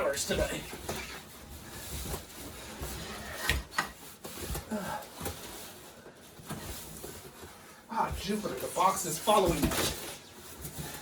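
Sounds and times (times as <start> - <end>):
cardboard boxes scraping: 0.0 - 11.0.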